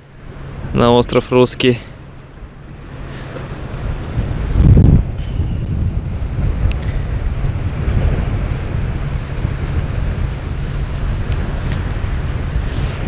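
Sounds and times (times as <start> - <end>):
sea waves on rocks: 0.0 - 13.0
wind buffeting microphone: 1.9 - 13.0.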